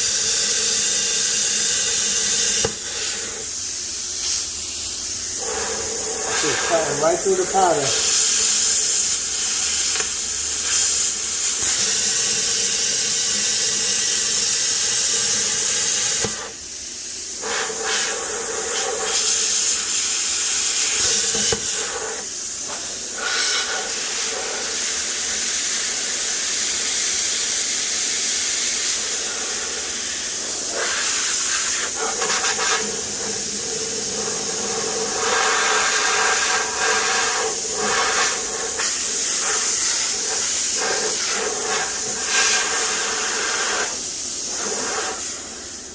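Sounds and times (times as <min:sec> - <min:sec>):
plasma cutter hissing: 0:00.0 - 0:45.9.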